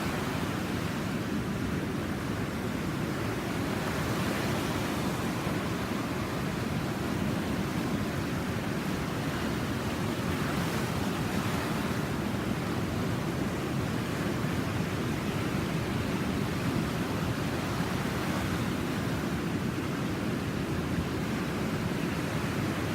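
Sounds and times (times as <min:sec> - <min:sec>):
ocean surf breaking: 0:00.0 - 0:22.9.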